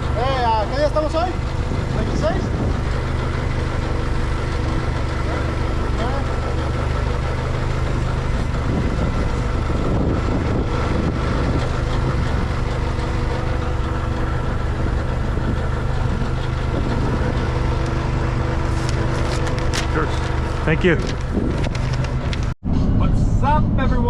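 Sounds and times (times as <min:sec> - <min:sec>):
diesel truck engine idling: 0:00.0 - 0:22.6.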